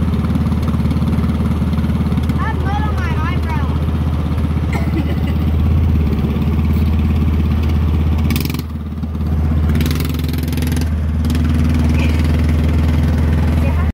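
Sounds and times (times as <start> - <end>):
small motorbike engine running: 0.0 - 13.9.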